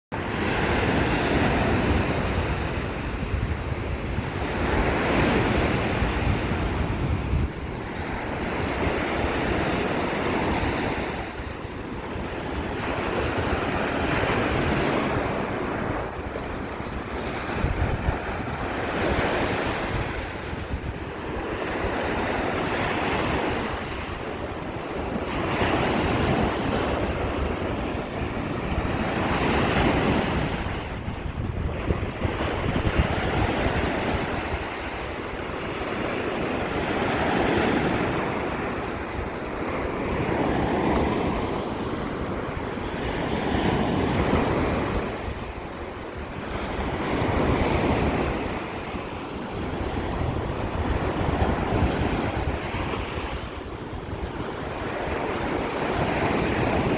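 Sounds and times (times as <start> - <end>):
wind buffeting microphone: 0.1 - 56.9
waves washing onto shore: 0.2 - 56.9.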